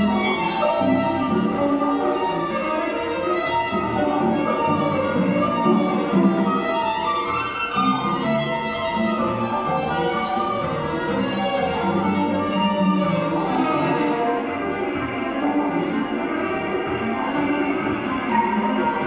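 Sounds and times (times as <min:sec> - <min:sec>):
string quartet playing: 0:00.0 - 0:19.0.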